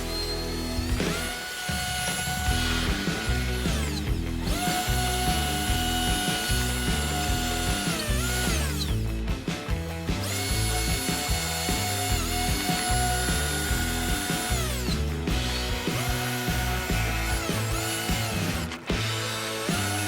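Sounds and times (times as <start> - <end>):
electric drill whining: 0.0 - 9.3, 10.1 - 20.0.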